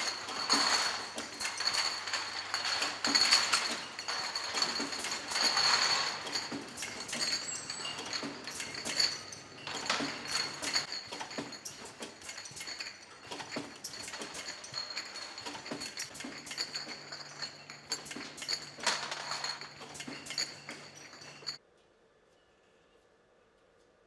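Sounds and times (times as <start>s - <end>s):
glass bottles clinking: 0.0s - 21.6s.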